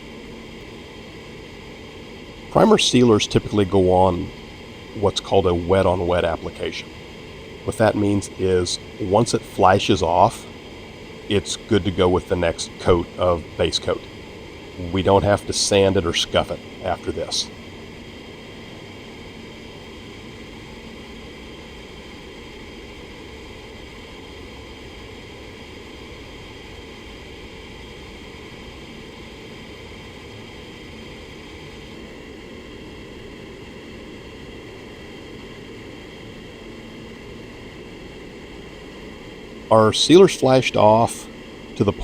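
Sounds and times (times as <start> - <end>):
fan hum: 0.0 - 42.0
ventilation air rushing: 0.0 - 42.0.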